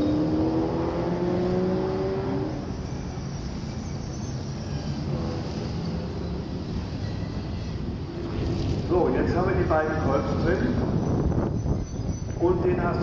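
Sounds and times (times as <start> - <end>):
rumble of racing engines: 0.0 - 13.0.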